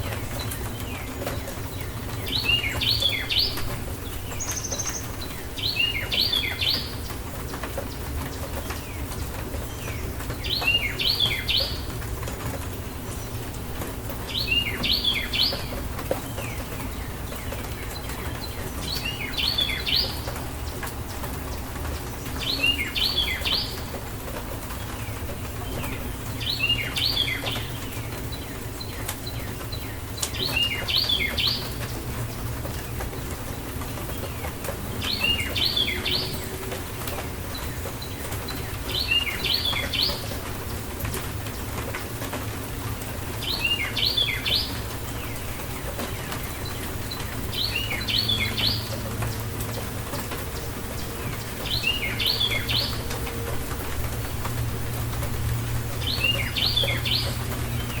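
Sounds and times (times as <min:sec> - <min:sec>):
rain: 0:00.0 - 0:58.0
songbird singing: 0:00.0 - 0:58.0.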